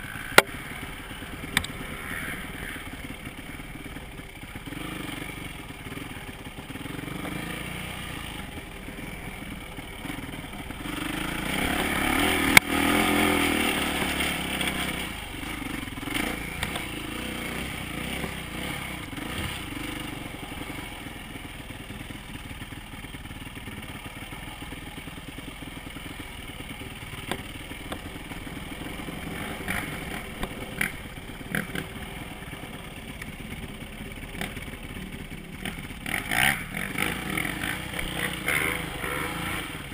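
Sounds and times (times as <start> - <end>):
dirt bike engine revving: 0.0 - 33.6, 35.5 - 39.9
bike rattling: 0.0 - 39.9.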